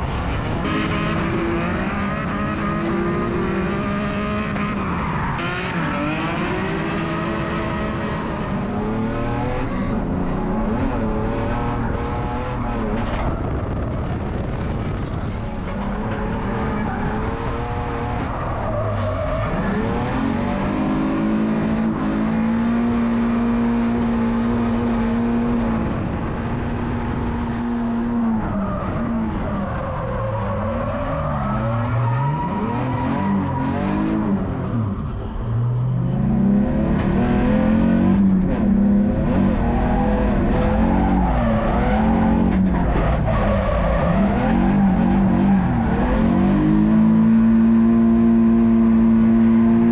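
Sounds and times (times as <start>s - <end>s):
car engine at high revs: 0.0s - 49.9s.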